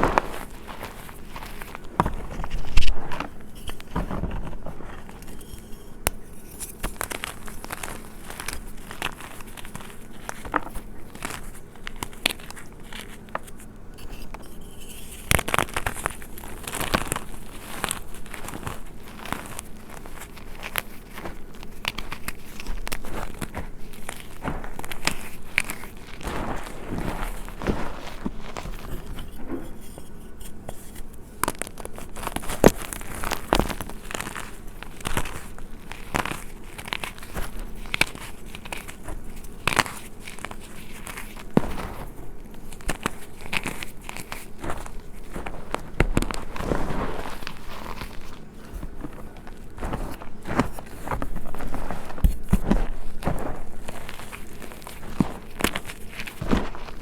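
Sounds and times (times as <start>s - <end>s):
chalk crushed by hand crunching: 0.0s - 57.0s.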